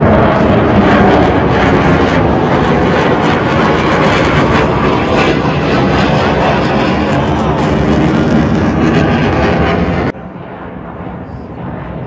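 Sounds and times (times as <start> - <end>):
jet aircraft flying over: 0.0 - 12.0.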